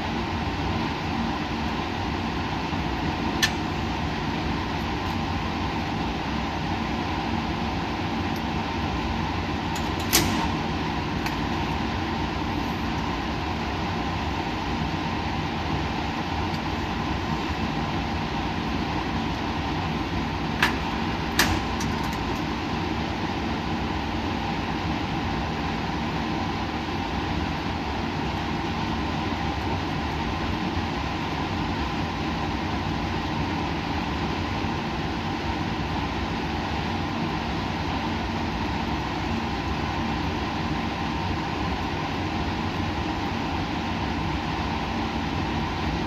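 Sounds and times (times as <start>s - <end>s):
equipment hum and hiss: 0.0s - 46.0s.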